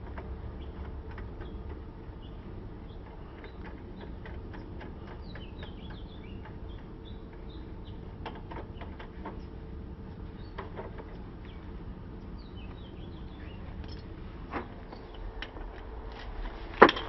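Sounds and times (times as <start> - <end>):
small birds chirping: 0.0 - 15.6
steady low hum: 0.0 - 17.0.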